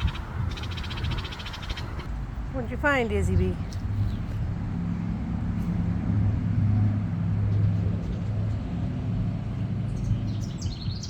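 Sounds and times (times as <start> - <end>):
low mechanical engine hum: 0.0 - 11.0.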